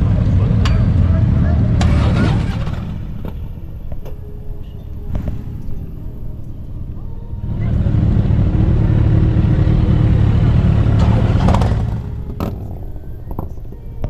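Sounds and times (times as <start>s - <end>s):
motorcycle engine running hard: 0.0s - 13.8s.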